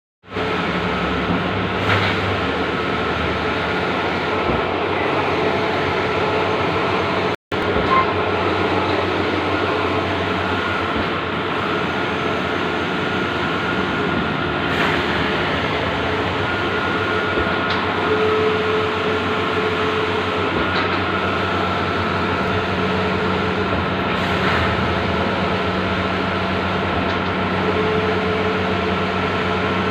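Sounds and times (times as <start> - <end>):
printing machine hum and whirr: 0.3 - 29.9
steady machine tones: 2.4 - 29.9.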